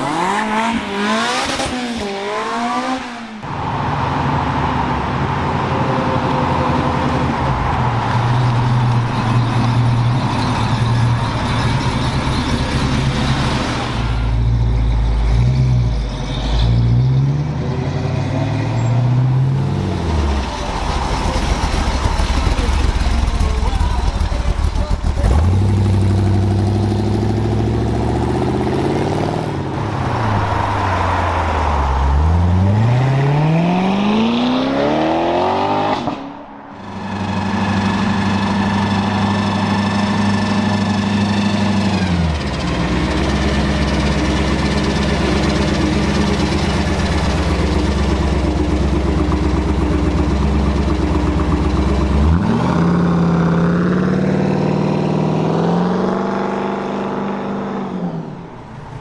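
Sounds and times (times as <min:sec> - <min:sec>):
car engines idling and revving: 0:00.0 - 0:59.0.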